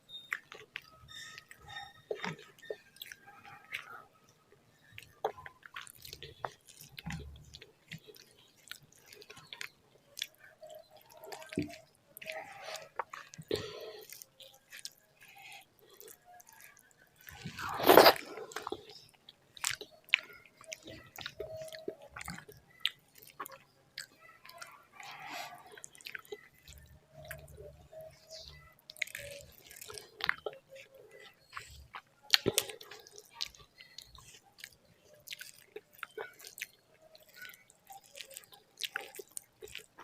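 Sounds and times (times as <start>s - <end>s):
person chewing with wet mouth sounds: 0.1s - 40.0s.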